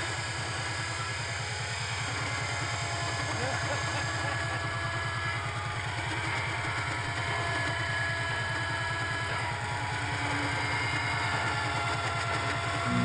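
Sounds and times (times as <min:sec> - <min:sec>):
high machine whines: 0:00.0 - 0:13.0
low machinery pulsing: 0:00.0 - 0:13.0
metalworking machines running: 0:00.0 - 0:13.0.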